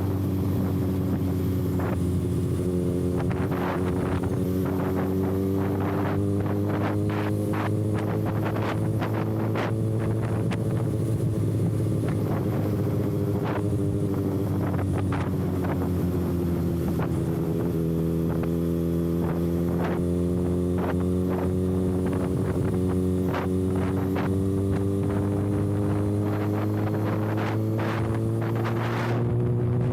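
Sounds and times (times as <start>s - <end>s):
motorcycle engine running: 0.0s - 29.9s
wind buffeting microphone: 0.0s - 29.9s.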